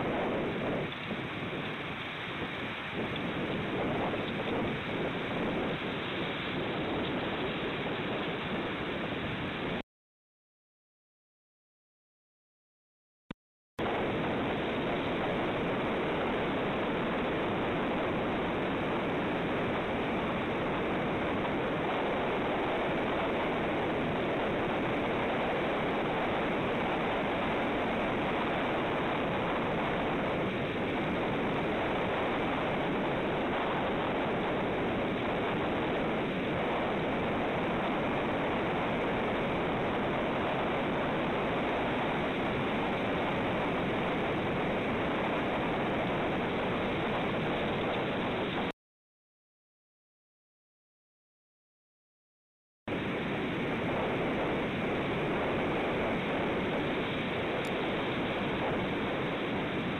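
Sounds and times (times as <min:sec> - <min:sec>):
steady rushing noise: 0:00.0 - 0:09.8, 0:13.8 - 0:48.7, 0:52.9 - 0:59.9.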